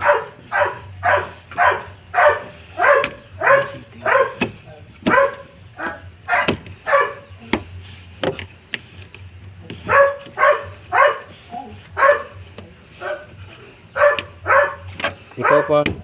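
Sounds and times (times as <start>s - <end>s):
dog barking: 0.0s - 7.4s, 9.8s - 12.4s, 13.0s - 15.8s.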